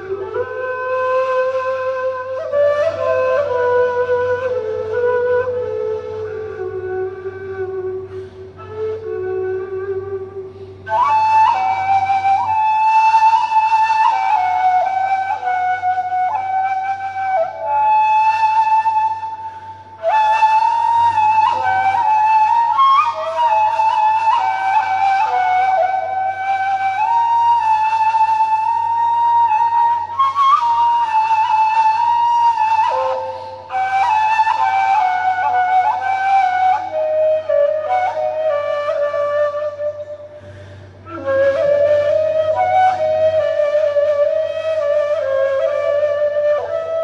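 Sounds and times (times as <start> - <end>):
reed flute melody: 0.0 - 47.0.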